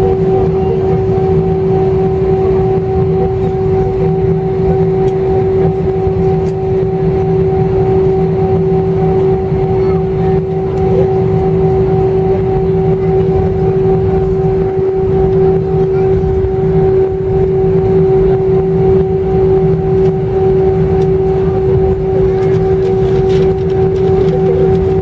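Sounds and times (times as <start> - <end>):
jet engines idling whine: 0.0 - 25.0
low rumble: 0.0 - 25.0.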